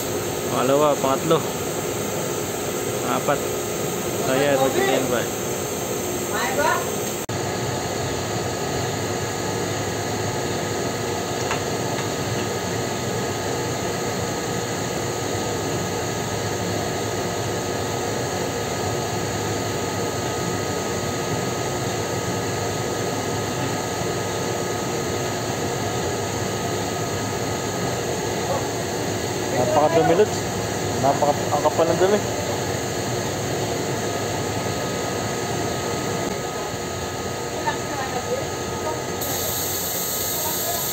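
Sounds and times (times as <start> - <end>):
industrial ventilation hum: 0.0 - 40.9.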